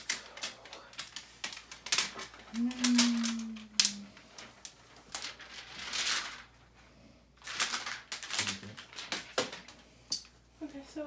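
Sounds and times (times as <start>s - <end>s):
cable handling rustling: 0.0s - 6.6s, 7.4s - 10.4s.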